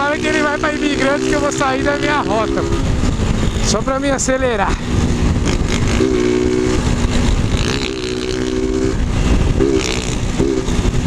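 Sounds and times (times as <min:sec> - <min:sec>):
motorcycle engine at high revs: 0:00.0 - 0:11.0
wind rush: 0:00.0 - 0:11.0.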